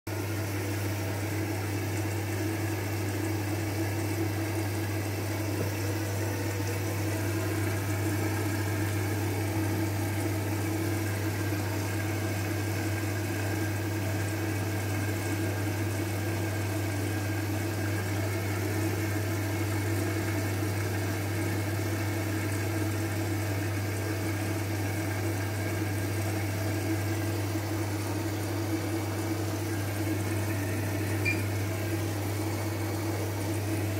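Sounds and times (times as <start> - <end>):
washing machine motor hum: 0.1 - 33.9
water and laundry churning: 0.1 - 33.9.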